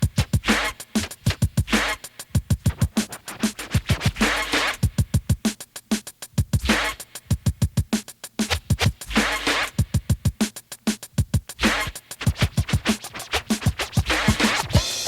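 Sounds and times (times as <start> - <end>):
hip hop drum machine beat: 0.0 - 15.0.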